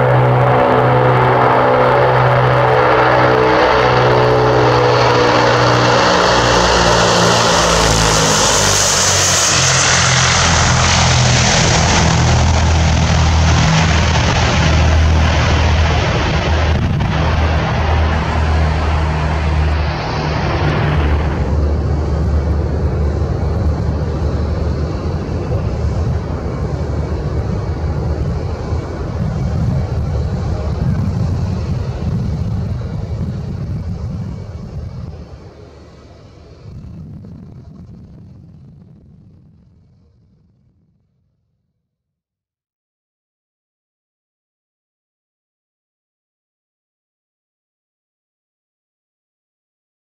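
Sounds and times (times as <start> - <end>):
rushing roar on runway: 0.0 - 41.4
propeller aircraft drone: 0.0 - 41.6.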